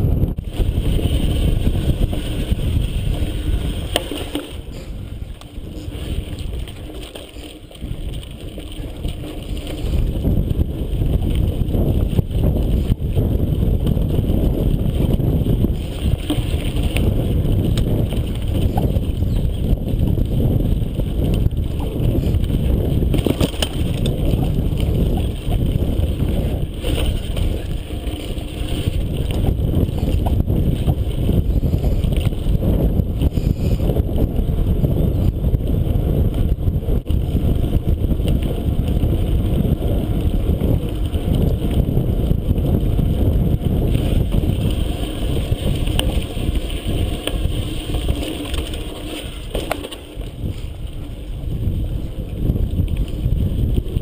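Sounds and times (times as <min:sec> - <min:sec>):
bike rattling and knocking: 0:00.0 - 0:54.0
tyres rumbling on dirt trail: 0:00.0 - 0:54.0
wind on microphone: 0:00.0 - 0:54.0.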